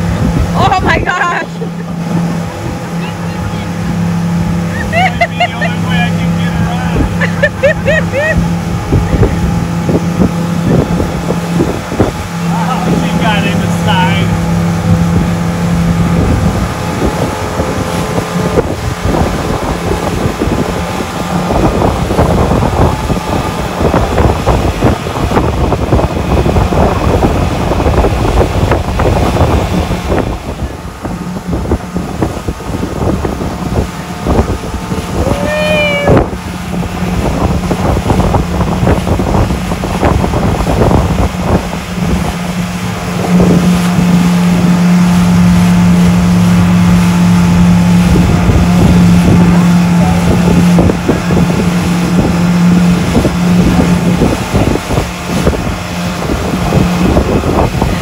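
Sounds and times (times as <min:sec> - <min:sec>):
motorboat engine humming: 0:00.0 - 0:58.0
wind and water rushing: 0:00.0 - 0:58.0.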